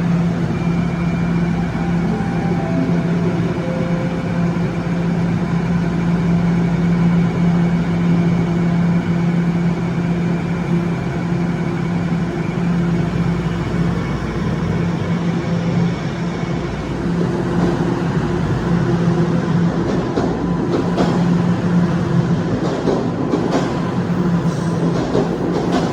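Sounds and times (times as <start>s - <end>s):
subway train humming: 0.0s - 25.9s.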